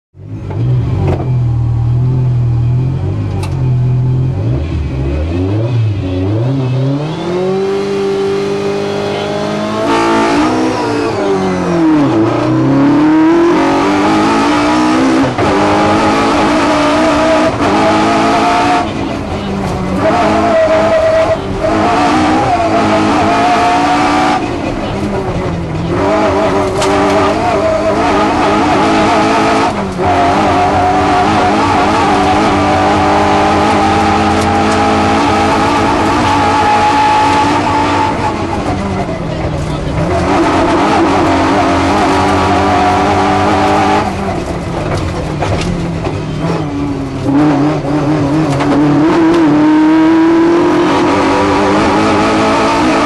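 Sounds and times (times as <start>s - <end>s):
racing car engine revving: 0.2s - 53.0s.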